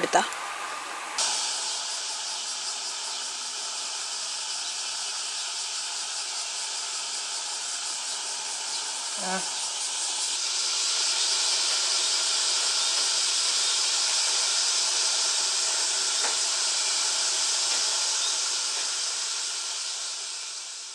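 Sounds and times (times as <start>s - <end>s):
steady high hiss: 0.0s - 20.9s.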